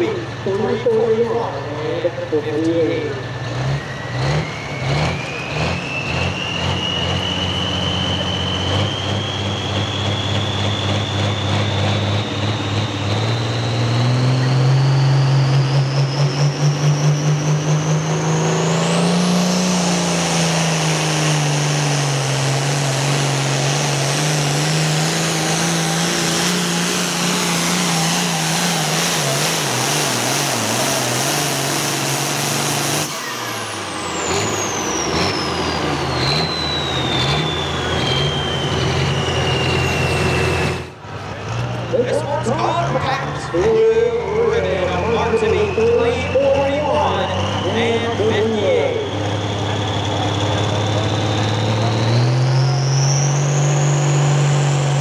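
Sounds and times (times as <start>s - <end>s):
diesel tractor engine under load: 0.0s - 55.0s
turbocharger whine: 0.0s - 55.0s.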